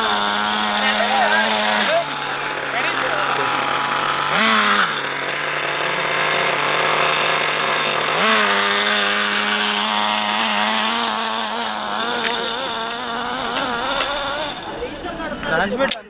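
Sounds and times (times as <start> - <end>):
model buggy engine buzzing: 0.0 - 16.0.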